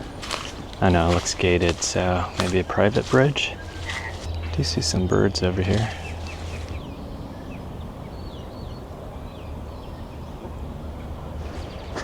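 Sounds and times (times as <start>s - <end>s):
steady low rumble: 0.0s - 11.8s
small birds chirping: 0.0s - 12.0s.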